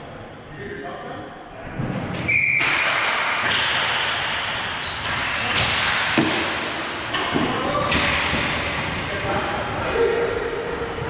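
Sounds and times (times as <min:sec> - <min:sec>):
thuds and knocks echoing in hall: 0:01.7 - 0:11.0.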